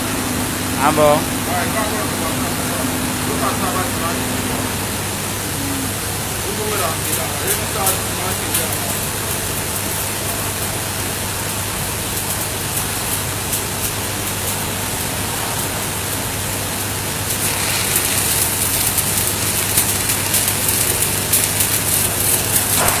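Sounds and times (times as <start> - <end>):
welding arc crackling: 0.3 - 23.0.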